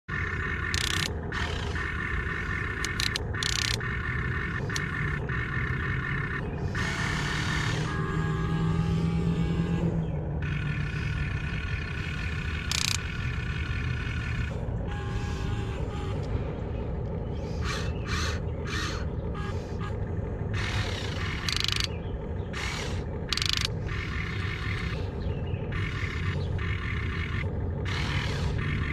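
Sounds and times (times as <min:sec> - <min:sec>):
electric motors whirring: 0:00.1 - 0:28.9
steady low rumble: 0:00.1 - 0:28.9.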